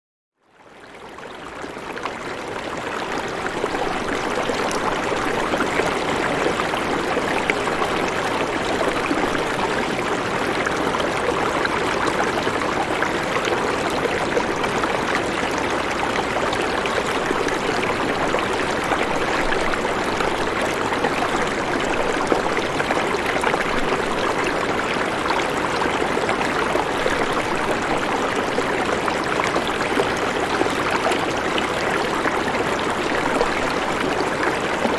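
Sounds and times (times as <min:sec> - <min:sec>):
rushing water: 0:00.7 - 0:34.9.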